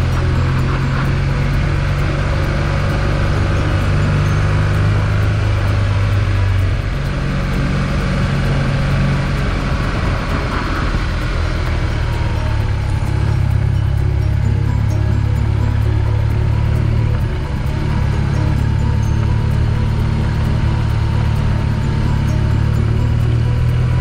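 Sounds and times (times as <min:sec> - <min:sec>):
motorcycle engine running: 0:00.0 - 0:24.0
wind and tyre noise: 0:00.0 - 0:24.0.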